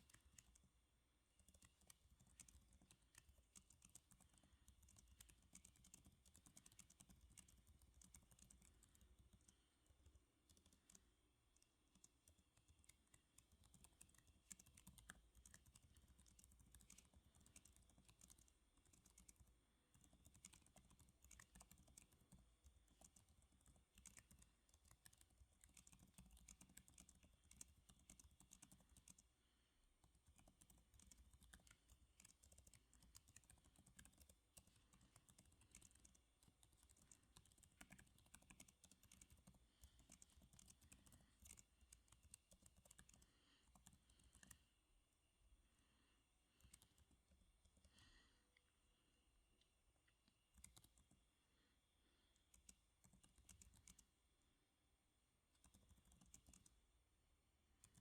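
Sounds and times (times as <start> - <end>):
typing on computer keyboard: 0.0 - 0.7, 1.4 - 29.3, 30.0 - 44.6, 46.5 - 48.0, 50.5 - 51.2, 52.3 - 54.1, 55.5 - 56.8, 57.8 - 58.0.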